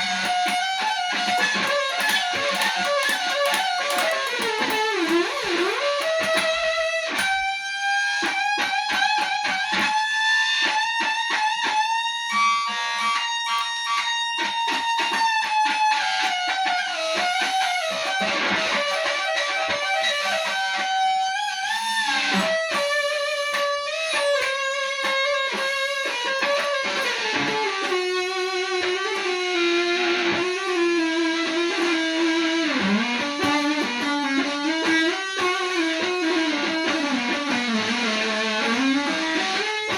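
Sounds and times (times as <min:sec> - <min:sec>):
electric guitar solo: 0:00.0 - 0:39.9.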